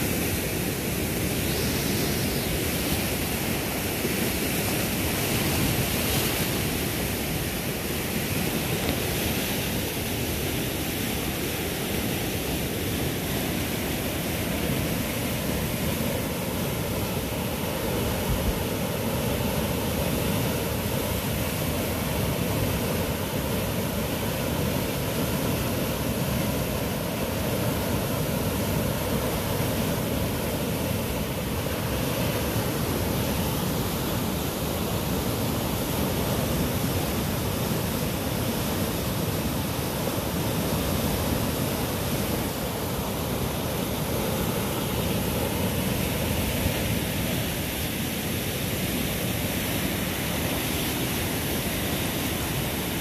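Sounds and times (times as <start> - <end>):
floodwater rushing: 0.0 - 53.0.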